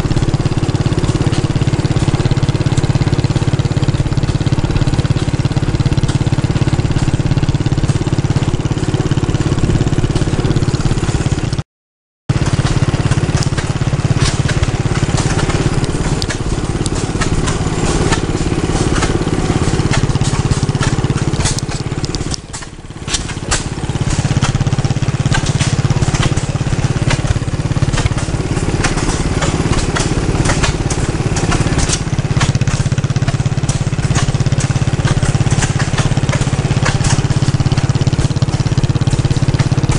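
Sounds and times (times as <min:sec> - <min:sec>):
crackling clatter: 0:00.0 - 0:11.6, 0:12.3 - 0:39.9
engines droning: 0:00.0 - 0:11.6, 0:12.3 - 0:39.9.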